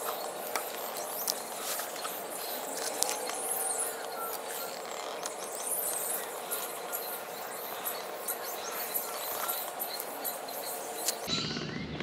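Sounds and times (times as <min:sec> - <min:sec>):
clicks and rustles of climbing gear: 0:00.0 - 0:11.3.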